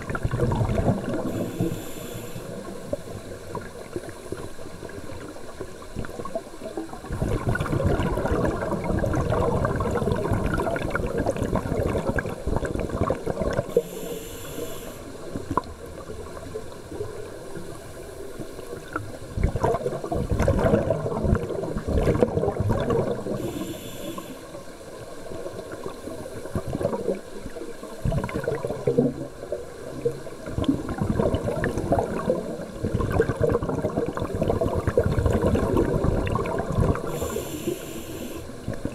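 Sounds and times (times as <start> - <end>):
bubbling exhaled air underwater: 0.0 - 38.9.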